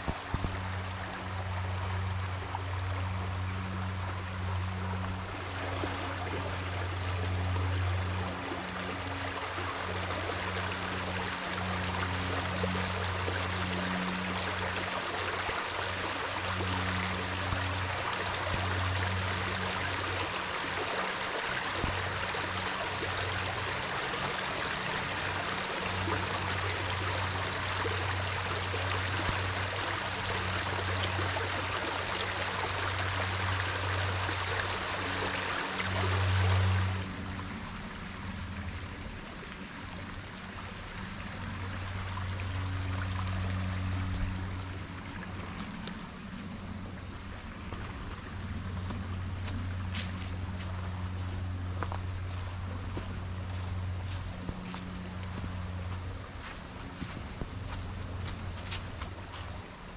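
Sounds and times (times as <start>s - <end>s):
low steady hum: 0.0s - 59.9s
stream running over stones: 0.0s - 59.9s.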